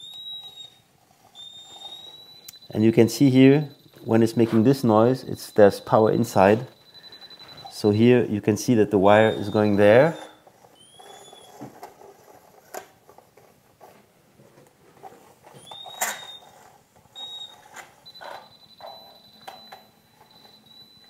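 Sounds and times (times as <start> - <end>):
wall detector electronic beeps: 0.0 - 11.9, 15.5 - 21.0.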